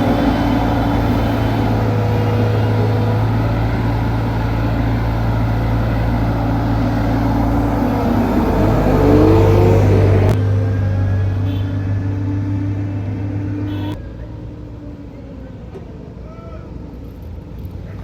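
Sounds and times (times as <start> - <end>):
heavy machinery engine humming: 0.0 - 18.0.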